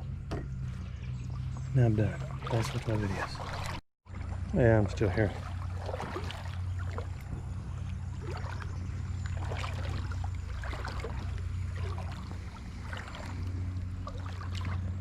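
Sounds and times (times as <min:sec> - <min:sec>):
steady low rumble: 0:00.0 - 0:15.0
creek water splashing: 0:00.6 - 0:15.0.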